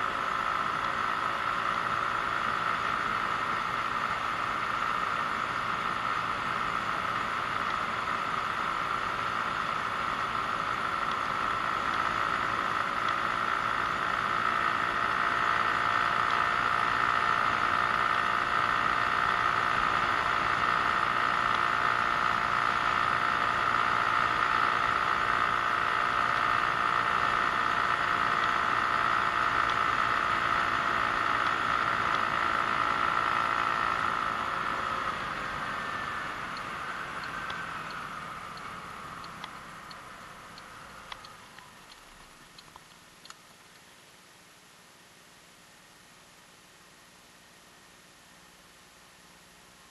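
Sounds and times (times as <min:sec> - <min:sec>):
scooter engine running: 0:00.0 - 0:43.4
road noise: 0:00.0 - 0:44.4.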